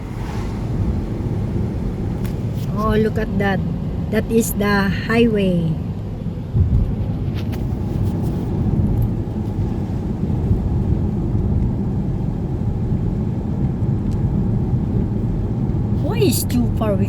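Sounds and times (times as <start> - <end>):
car interior road noise: 0.0 - 17.0.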